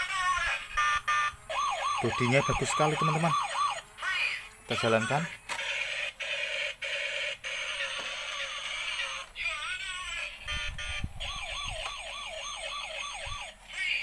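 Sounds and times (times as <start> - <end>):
toy electronic siren: 0.0 - 14.0.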